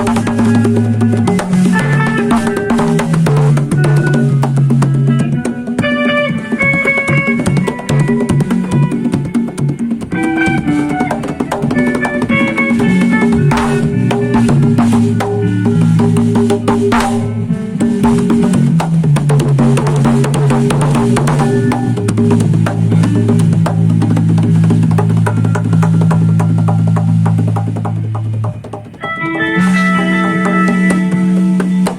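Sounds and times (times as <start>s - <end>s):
band playing: 0.0s - 31.9s
drum kit hitting steadily: 0.0s - 31.9s.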